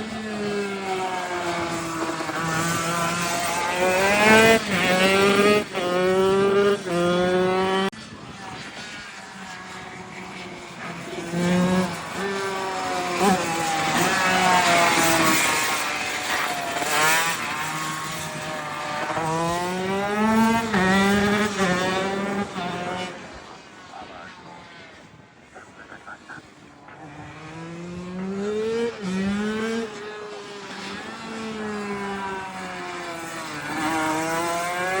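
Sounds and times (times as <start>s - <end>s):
two-stroke motorbike engine revving: 0.0s - 7.9s, 9.9s - 23.2s, 27.0s - 35.0s.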